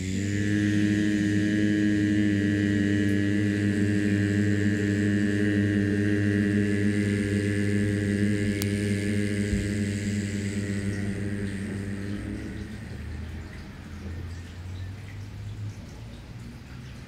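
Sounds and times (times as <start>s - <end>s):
low chanted drone: 0.0s - 16.3s.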